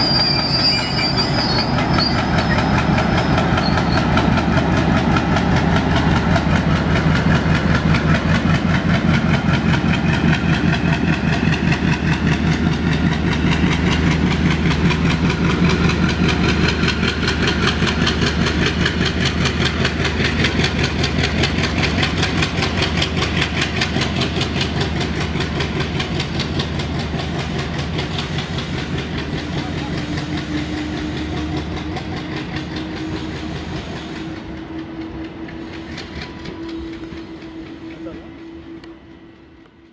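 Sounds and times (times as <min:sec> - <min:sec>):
coaches rumbling over rails: 0:00.0 - 0:39.9
diesel locomotive engine chugging: 0:00.0 - 0:39.9.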